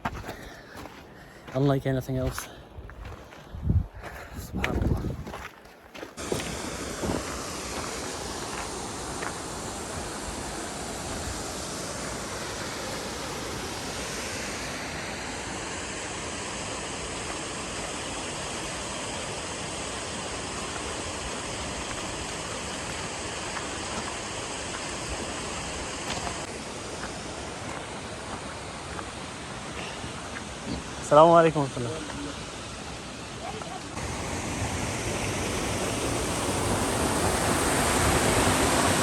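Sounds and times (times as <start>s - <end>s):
steady rushing noise: 6.2s - 39.0s.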